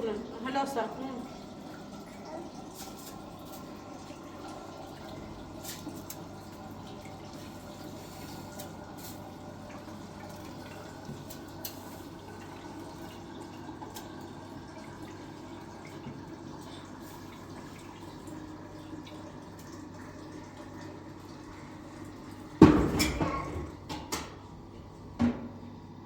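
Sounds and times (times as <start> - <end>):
water trickling and dripping: 0.0 - 22.6.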